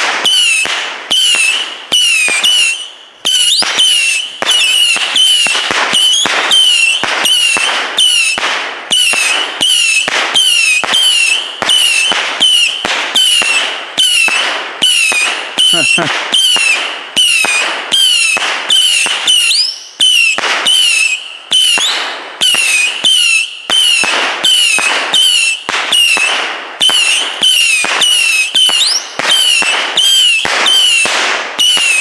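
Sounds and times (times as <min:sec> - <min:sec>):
firework whistling shots: 0:00.0 - 0:32.0.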